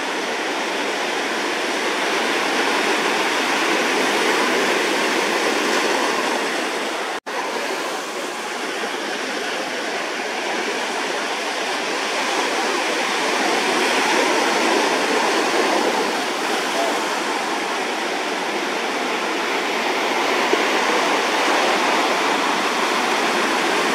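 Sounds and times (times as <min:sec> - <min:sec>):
breaking surf: 0:00.0 - 0:23.9.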